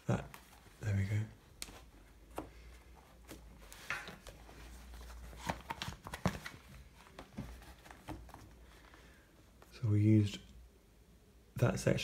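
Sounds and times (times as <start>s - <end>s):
soft rustle: 0.1s - 9.8s.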